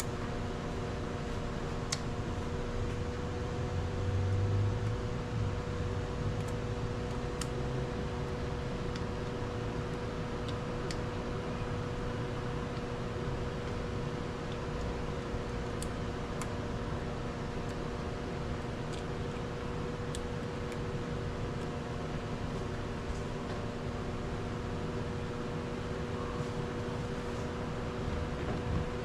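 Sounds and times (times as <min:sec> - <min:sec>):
mechanical hum and hiss: 0:00.0 - 0:29.0.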